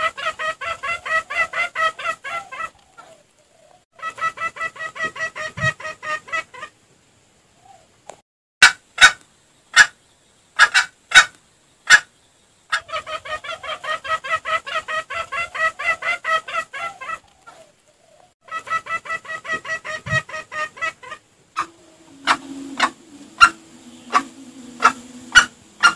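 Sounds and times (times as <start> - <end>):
junglefowl clucks: 0.0 - 6.8, 8.6 - 10.0, 10.6 - 12.1, 12.7 - 25.9.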